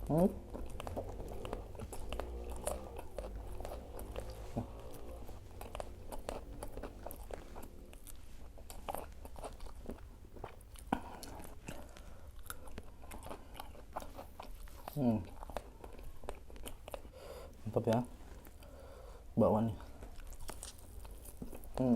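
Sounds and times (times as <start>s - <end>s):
crunchy chewing: 0.0s - 21.9s.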